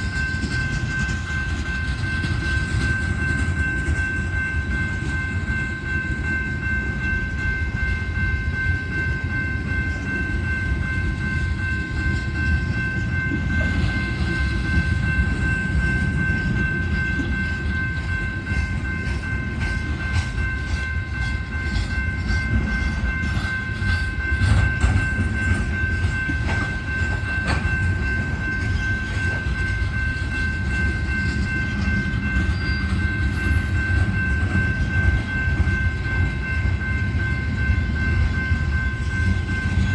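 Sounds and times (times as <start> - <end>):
train cars rumbling past: 0.0 - 39.9.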